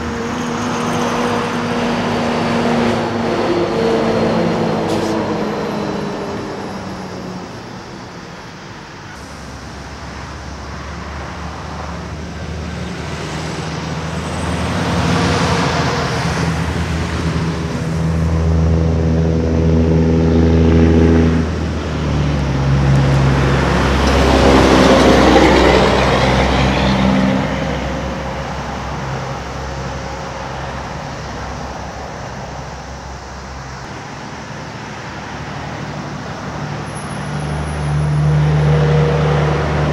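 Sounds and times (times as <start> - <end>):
diesel truck engine: 0.0 - 39.9
tyre rush of passing traffic: 0.0 - 39.9.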